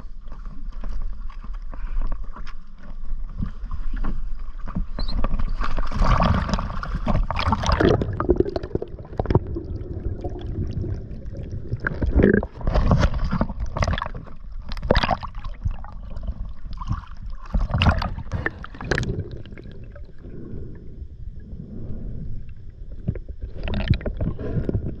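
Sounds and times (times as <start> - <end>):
water sloshing and gurgling: 0.0 - 25.0.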